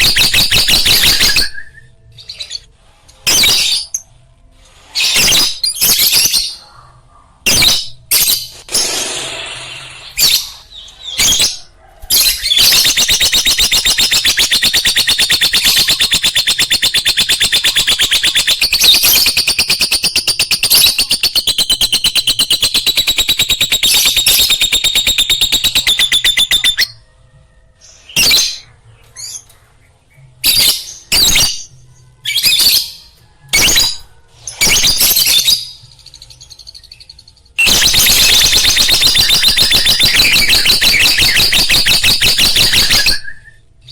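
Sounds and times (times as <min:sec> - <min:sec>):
lovebird chirping and trilling: 0:00.0 - 0:02.7, 0:07.5 - 0:27.0, 0:27.8 - 0:29.6, 0:30.4 - 0:43.9.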